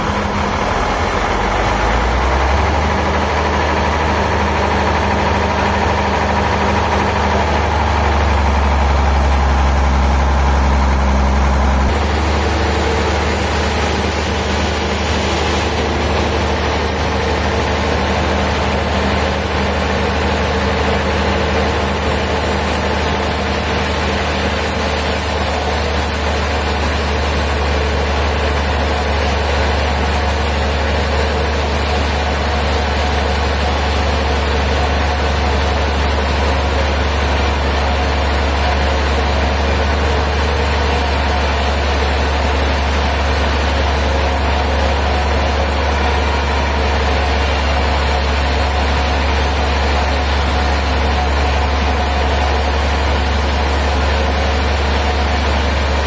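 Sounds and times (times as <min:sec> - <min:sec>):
heavy machine engine humming: 0:00.0 - 0:56.0.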